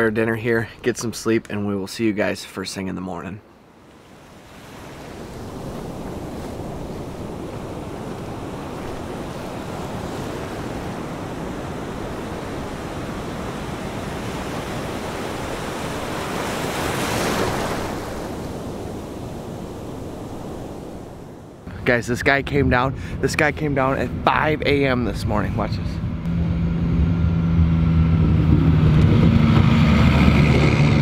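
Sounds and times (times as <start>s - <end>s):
rushing wind: 3.7s - 31.0s.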